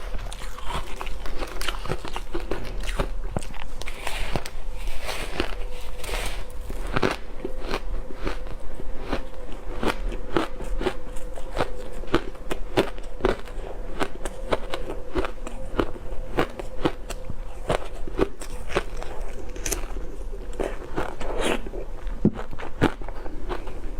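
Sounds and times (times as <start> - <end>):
ice crunching being chewed: 0.0 - 23.9.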